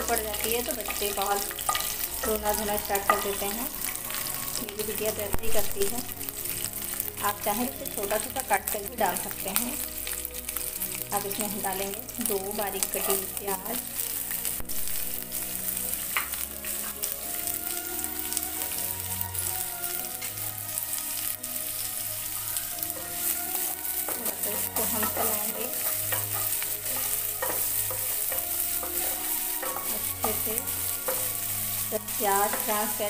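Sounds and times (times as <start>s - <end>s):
wooden spatula scraping a pan: 0.0s - 7.0s, 12.4s - 33.0s
onions sizzling in hot oil: 0.0s - 33.0s.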